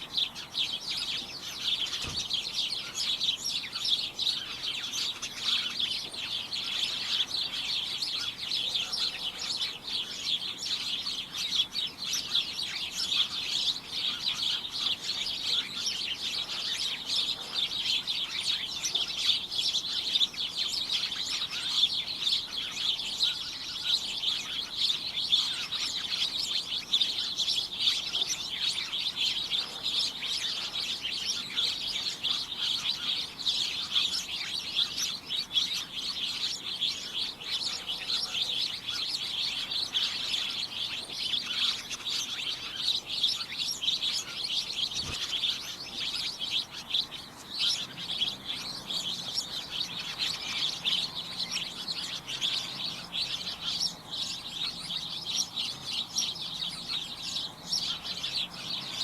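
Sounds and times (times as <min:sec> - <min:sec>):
flock of small birds chirping: 0:00.0 - 0:59.0.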